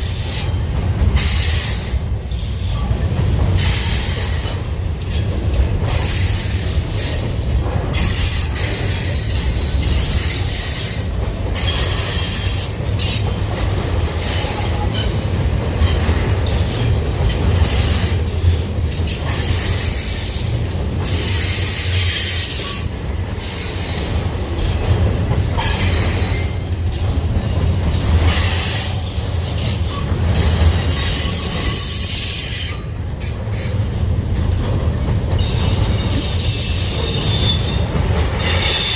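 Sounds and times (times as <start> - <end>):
train wheels squealing: 0.0 - 5.3, 7.9 - 13.4, 14.2 - 17.0, 17.6 - 33.8, 35.3 - 38.9
freight train rumbling past: 0.0 - 38.9.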